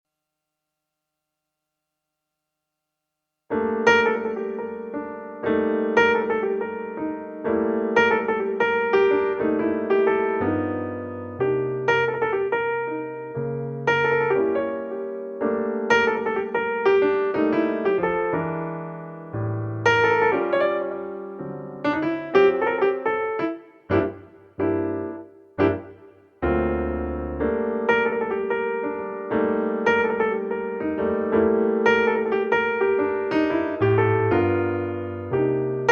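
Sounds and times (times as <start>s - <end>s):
piano music: 3.5s - 35.9s.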